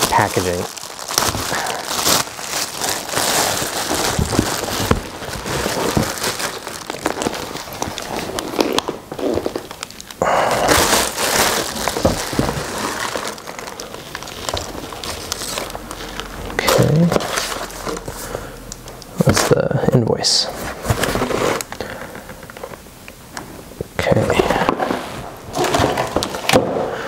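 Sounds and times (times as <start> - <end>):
cellophane wrap crinkling: 0.0 - 22.8, 24.0 - 27.0.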